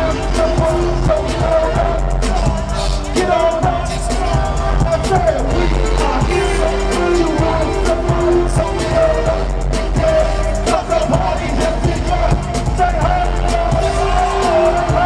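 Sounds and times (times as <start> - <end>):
dance music over speakers: 0.0 - 15.0
person singing: 0.0 - 15.0.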